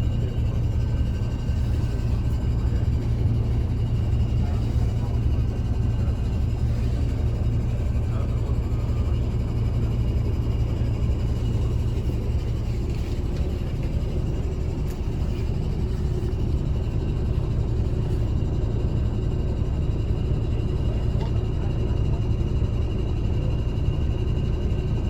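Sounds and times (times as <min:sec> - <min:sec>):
bus engine and road drone: 0:00.0 - 0:25.0.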